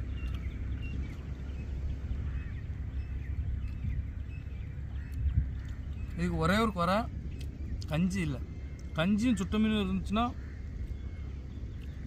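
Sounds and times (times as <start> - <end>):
high bird calls: 0.0 - 12.0
low rumble: 0.0 - 12.0.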